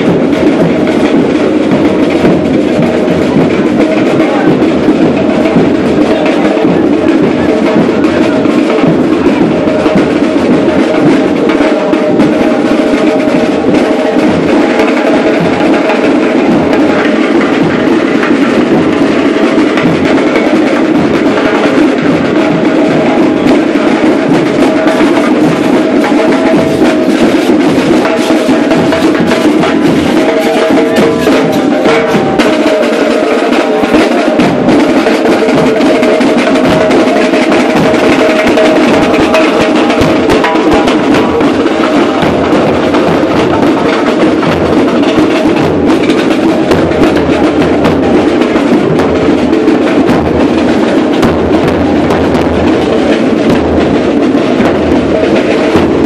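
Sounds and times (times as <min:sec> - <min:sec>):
marching drum band: 0:00.0 - 0:56.0.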